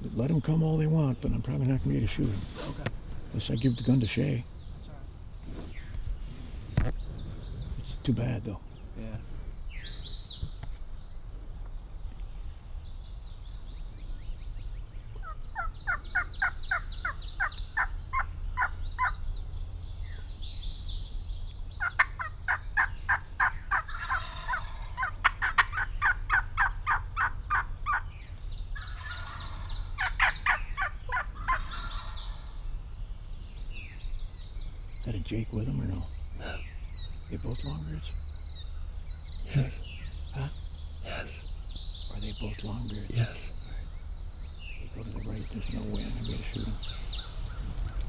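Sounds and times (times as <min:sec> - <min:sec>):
songbirds singing: 0:00.0 - 0:48.0
wild turkeys calling: 0:00.2 - 0:07.2, 0:15.2 - 0:48.0.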